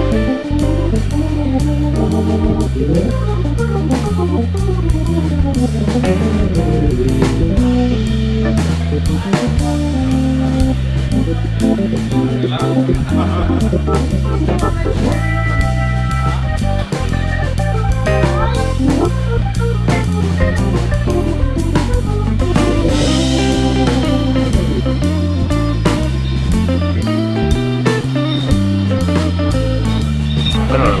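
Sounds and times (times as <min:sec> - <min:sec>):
guitar: 0:00.0 - 0:31.0
organ: 0:00.0 - 0:31.0
steady drum beat: 0:00.0 - 0:31.0.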